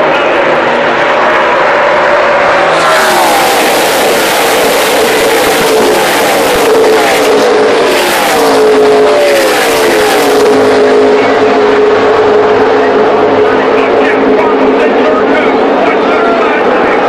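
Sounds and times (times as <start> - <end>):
racing truck engines passing: 0.0 - 17.0.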